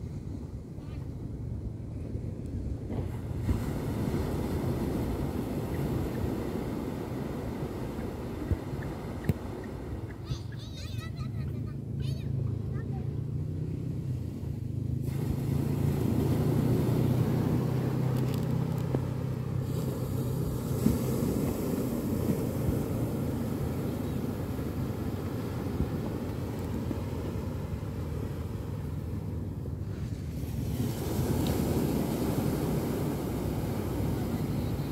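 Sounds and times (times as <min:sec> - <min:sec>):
wind rumble on microphone: 0:00.0 - 0:10.3, 0:12.3 - 0:34.9
sea waves washing onto beach: 0:02.8 - 0:34.9.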